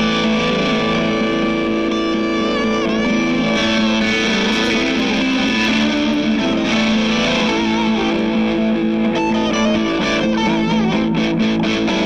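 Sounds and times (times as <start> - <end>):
electric guitar with effects: 0.0 - 12.0.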